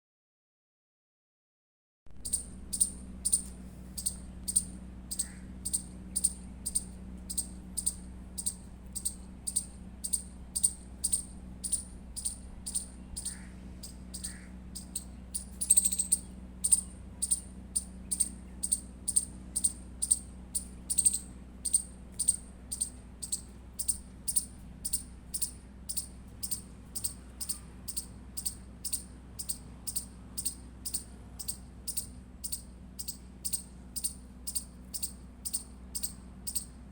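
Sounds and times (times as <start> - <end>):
squirrel chirping: 2.1 - 36.8
faint low hum: 2.1 - 36.9.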